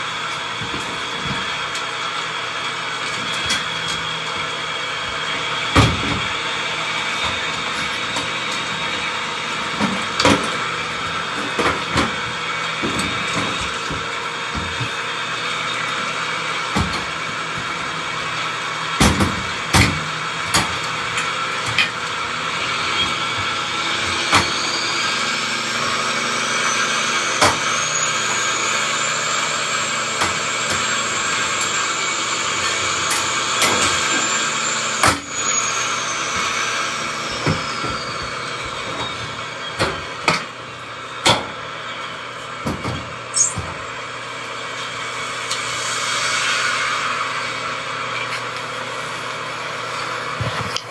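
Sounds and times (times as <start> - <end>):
knocks and rattles: 0.0 - 44.3
vehicle running noise: 0.0 - 50.9.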